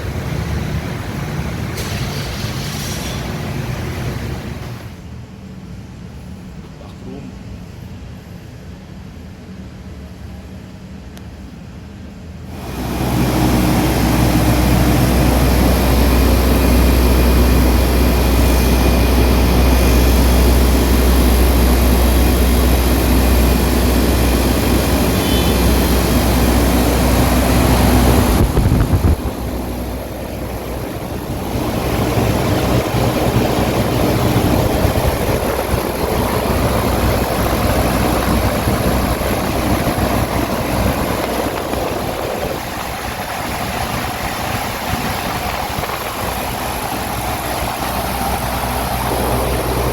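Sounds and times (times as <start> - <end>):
large fan running: 0.0 - 49.9.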